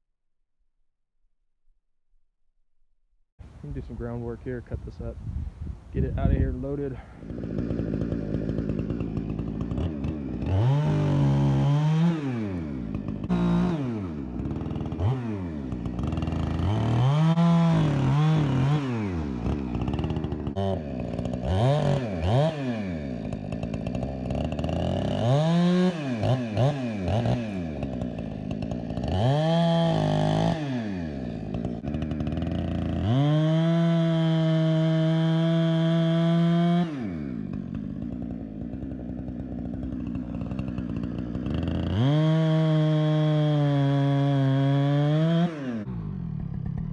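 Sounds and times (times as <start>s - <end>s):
chainsaw revving and idling: 5.8s - 46.9s.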